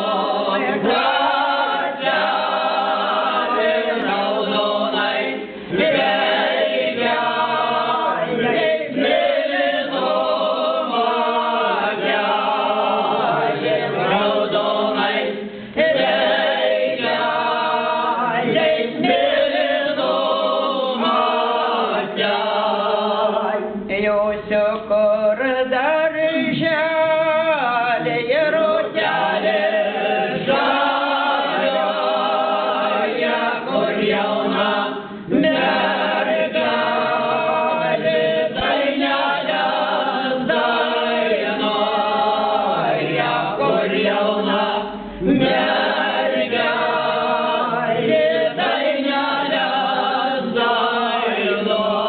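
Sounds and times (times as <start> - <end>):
choir singing a cappella: 0.0 - 52.0.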